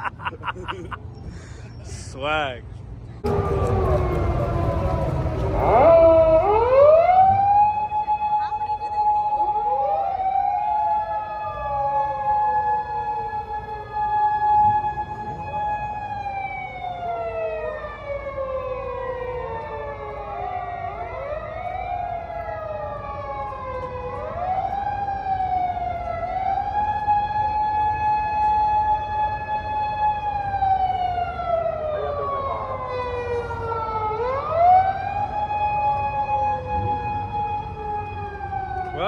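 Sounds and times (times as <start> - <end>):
emergency sirens wailing: 0.0 - 2.4, 3.2 - 39.0.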